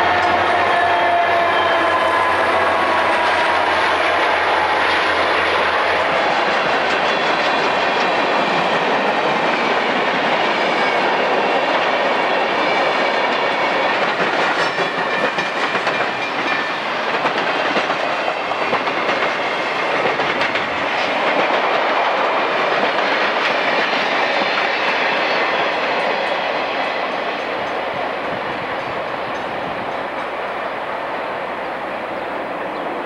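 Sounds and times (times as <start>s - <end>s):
train wheels rolling on rails: 0.0s - 33.0s.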